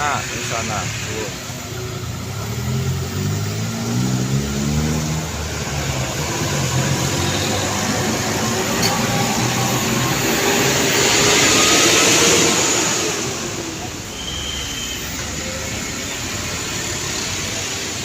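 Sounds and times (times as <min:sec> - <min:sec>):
diesel truck engine pulling away: 0:00.0 - 0:18.0
passing traffic tyre noise: 0:00.0 - 0:18.0.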